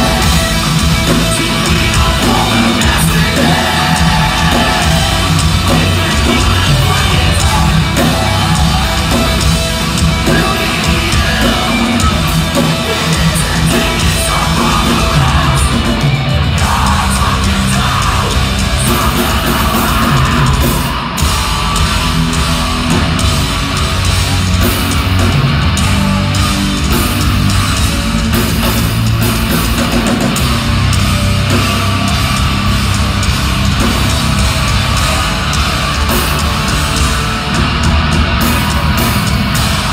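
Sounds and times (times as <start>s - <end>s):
live metal band playing: 0.0s - 39.9s
yelled vocals: 0.0s - 39.9s.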